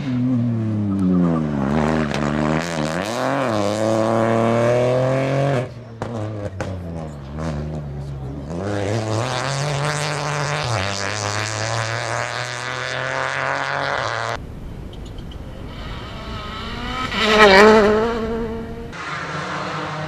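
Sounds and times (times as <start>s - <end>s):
car engine accelerating: 0.0s - 14.4s, 15.5s - 20.0s.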